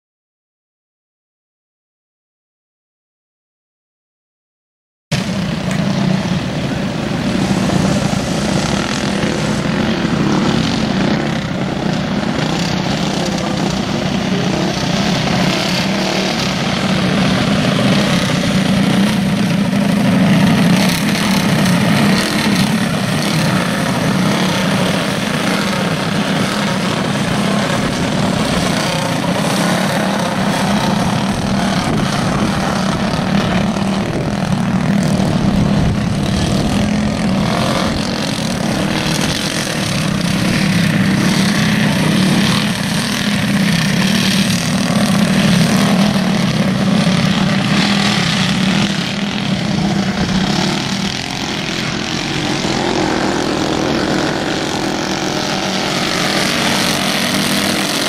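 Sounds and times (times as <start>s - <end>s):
go-kart engines droning: 5.1s - 58.0s.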